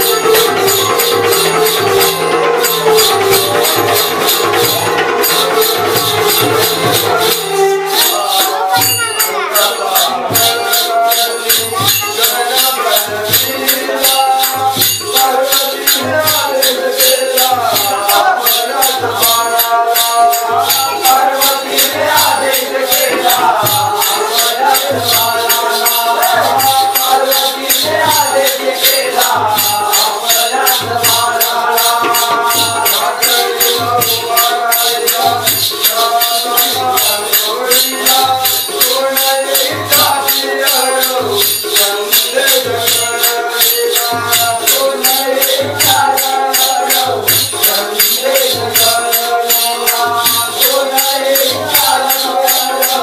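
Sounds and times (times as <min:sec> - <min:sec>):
jingling small cymbals: 0:00.0 - 0:53.0
voices singing: 0:00.0 - 0:53.0.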